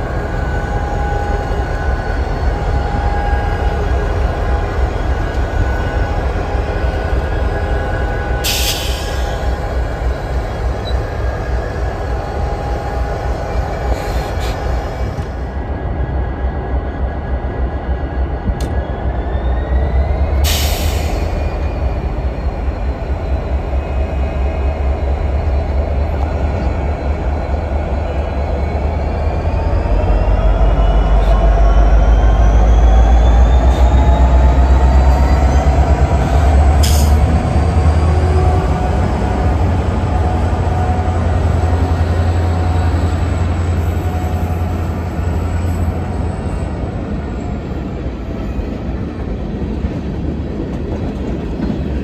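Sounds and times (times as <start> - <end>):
diesel locomotives rumbling: 0.0 - 52.0.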